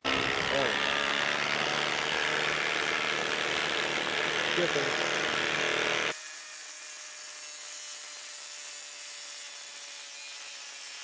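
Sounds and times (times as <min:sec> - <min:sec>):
impact driver hammering screw: 0:00.0 - 0:11.0.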